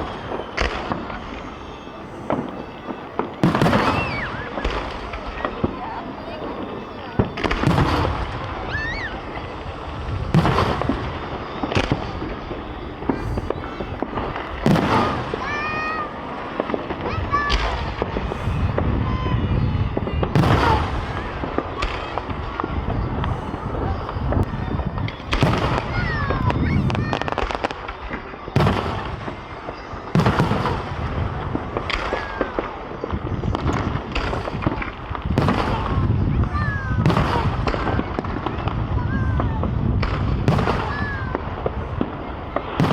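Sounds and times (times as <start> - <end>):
fireworks booming overhead: 0.0 - 42.9
fireworks crackling: 0.0 - 42.9.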